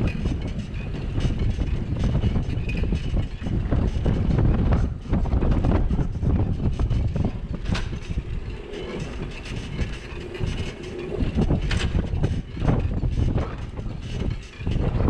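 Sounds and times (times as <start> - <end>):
bicycle road noise rumble: 0.0 - 15.0
bike clicks and rattles: 0.0 - 15.0.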